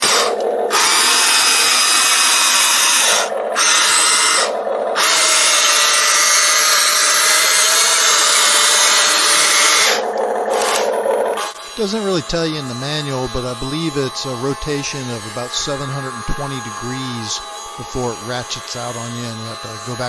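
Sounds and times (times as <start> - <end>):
toy gear motors whirring: 0.0 - 20.0.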